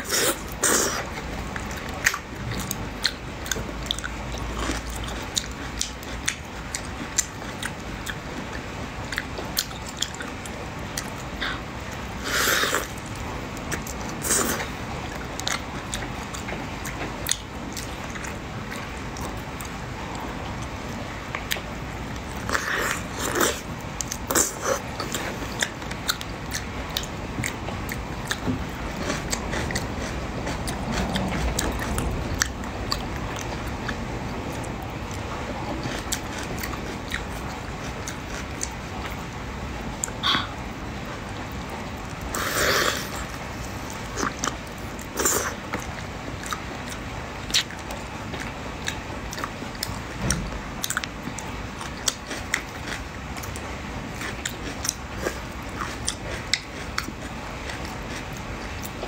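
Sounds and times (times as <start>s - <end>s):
wet chewing: 0.0s - 19.8s, 20.6s - 39.2s, 39.9s - 59.0s.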